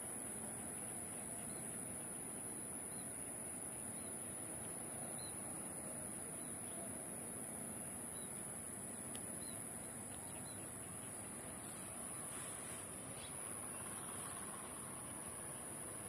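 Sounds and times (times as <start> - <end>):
background hiss and rumble: 0.0 - 16.0.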